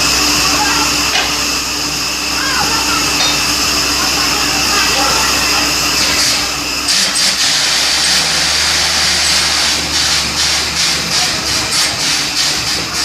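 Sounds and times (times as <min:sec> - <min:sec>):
drilling rig engine drone: 0:00.0 - 0:13.0
loud hiss: 0:00.0 - 0:13.0.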